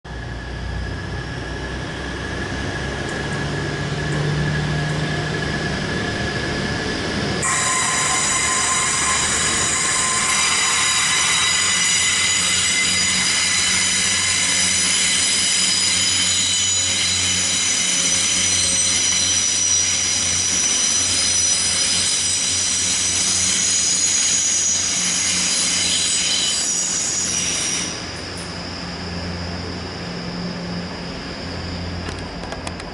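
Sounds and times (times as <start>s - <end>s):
diesel train engines running: 0.1s - 32.9s
high-pitched wheel squeal: 5.0s - 32.0s.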